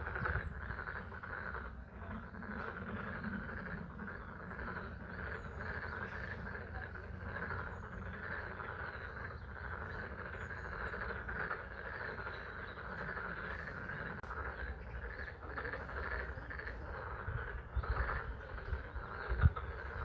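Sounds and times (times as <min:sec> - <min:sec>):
chorus of frogs trilling: 0:00.0 - 0:20.0.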